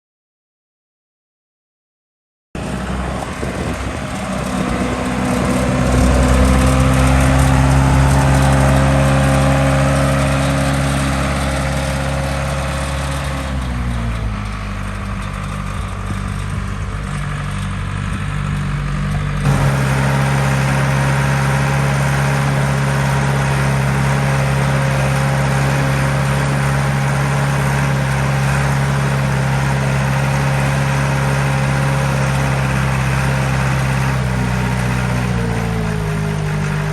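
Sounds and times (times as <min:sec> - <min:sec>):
combine engine running: 0:02.6 - 0:36.9.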